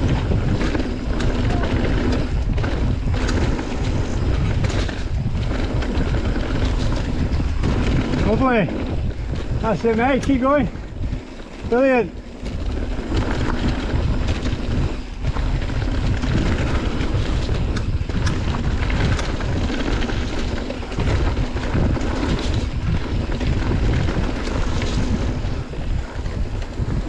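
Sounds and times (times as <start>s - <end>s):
bike clicks and rattles: 0.0s - 27.0s
rumble of tyres on ground: 0.0s - 27.0s
wind on microphone: 0.0s - 27.0s.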